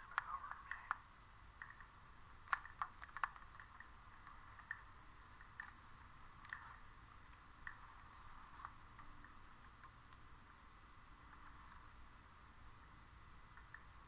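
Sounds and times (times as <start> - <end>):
small clicks and ticks: 0.0 - 14.0
thin steady hiss: 0.0 - 14.0.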